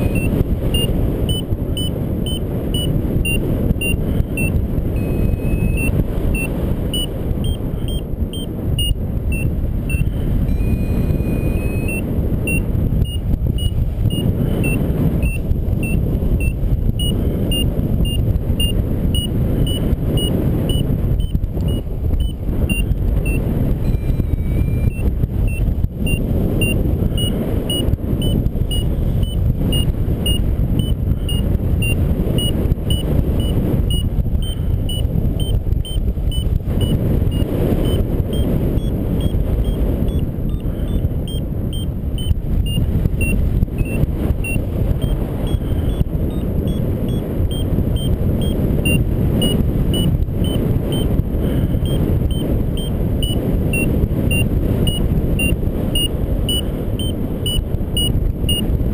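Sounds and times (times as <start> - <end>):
high electronic beeps: 0.0 - 51.1, 51.8 - 58.6
longer lower electronic tones: 0.0 - 51.1, 51.8 - 58.6
wind rushing over microphone: 0.0 - 58.9.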